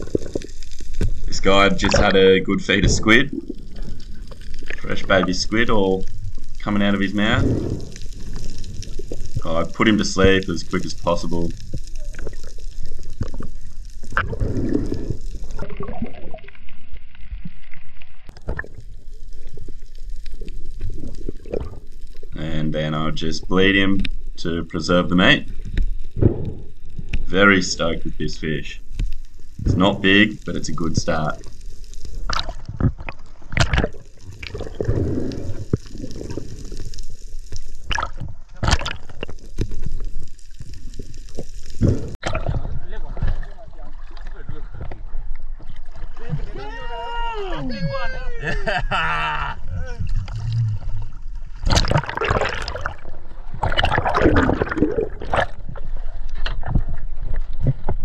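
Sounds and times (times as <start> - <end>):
muffled underwater sloshing: 0.0 - 49.0, 49.6 - 58.0.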